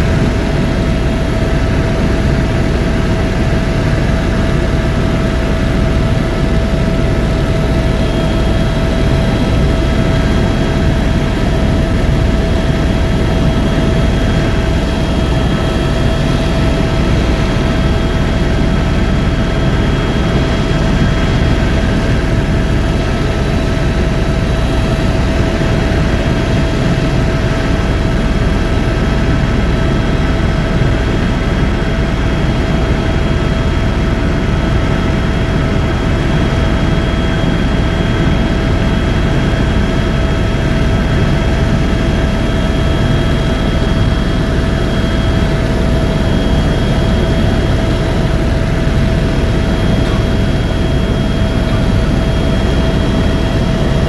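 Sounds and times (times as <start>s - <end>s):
helicopter engine rumble: 0.0s - 54.0s
helicopter high whine: 0.0s - 54.0s.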